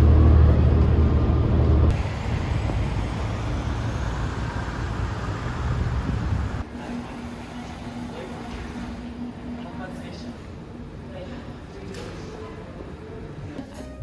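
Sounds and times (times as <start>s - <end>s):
low rumble of road traffic: 0.0s - 11.6s.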